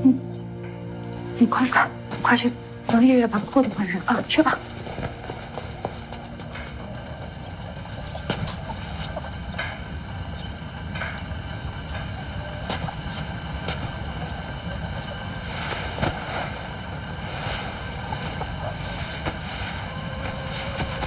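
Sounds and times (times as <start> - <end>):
steady low drone: 0.0 - 21.0.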